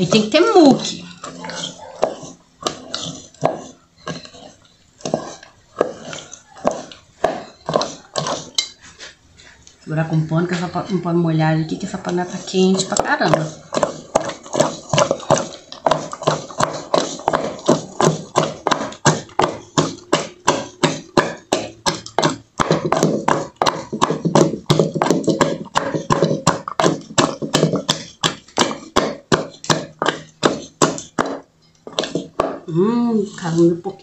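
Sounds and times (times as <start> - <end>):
wooden spoon knocking in iron pot: 0.0 - 8.8, 11.7 - 32.7
sticky scraping: 0.0 - 9.7, 11.6 - 32.5.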